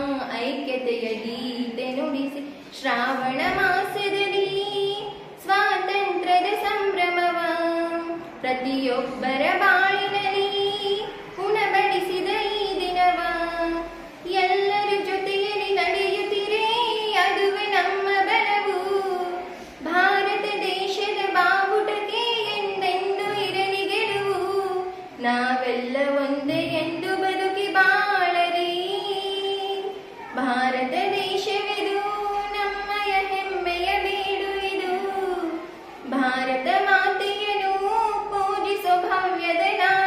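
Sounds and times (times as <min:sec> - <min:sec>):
girl singing unaccompanied: 0:00.0 - 0:40.0.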